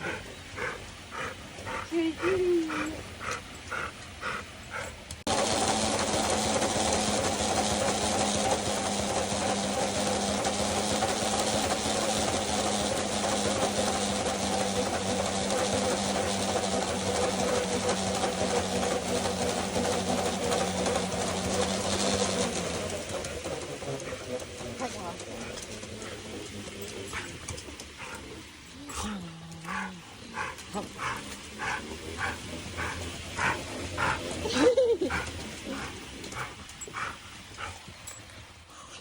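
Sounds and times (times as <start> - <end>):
treadmill motor humming: 0.0 - 38.2
dog running on treadmill: 5.2 - 28.7, 29.6 - 38.1.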